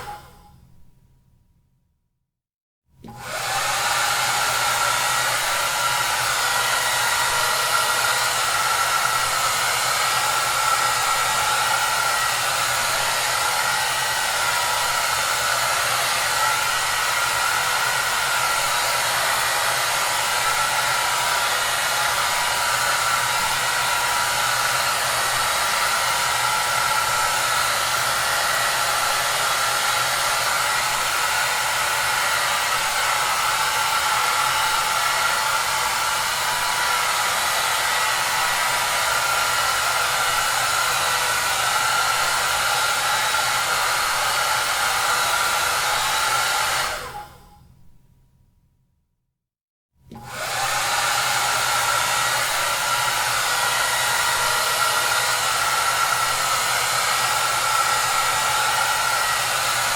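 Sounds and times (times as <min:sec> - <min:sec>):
hair dryer running: 0:00.0 - 0:00.4, 0:03.0 - 0:47.5, 0:50.1 - 0:59.9.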